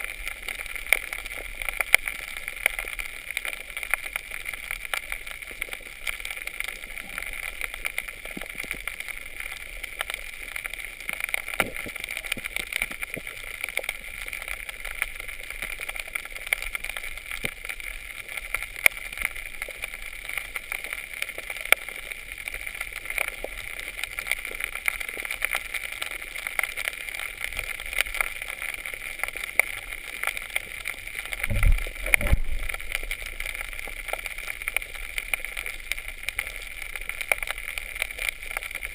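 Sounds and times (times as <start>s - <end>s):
faint crackling clicks: 0.0s - 38.9s.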